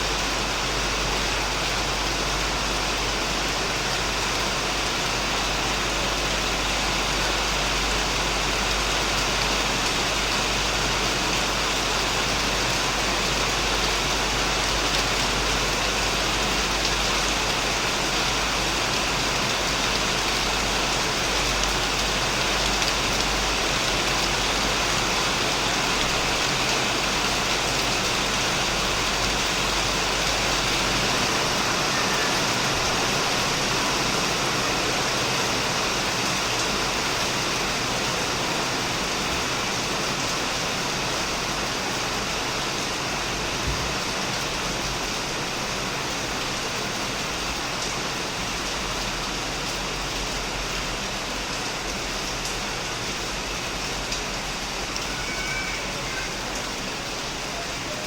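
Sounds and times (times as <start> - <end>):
heavy rain on roof and plants: 0.0 - 58.0.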